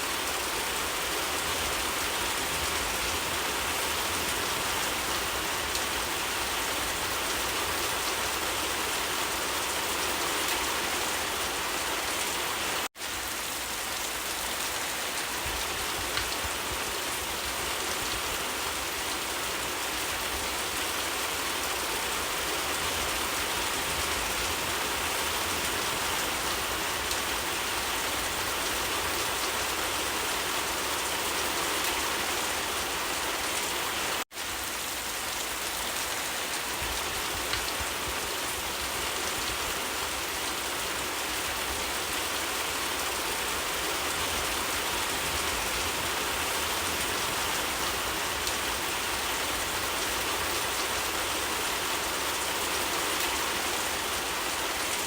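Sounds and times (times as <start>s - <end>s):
rain falling on surfaces: 0.0s - 55.0s.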